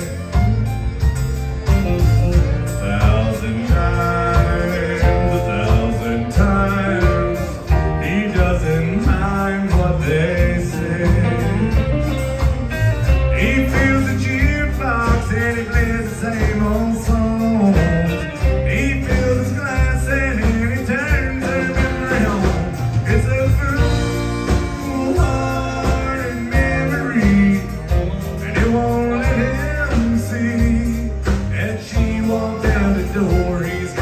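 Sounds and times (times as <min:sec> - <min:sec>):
fiddle melody: 0:00.0 - 0:34.0
live country band playing: 0:00.0 - 0:34.0.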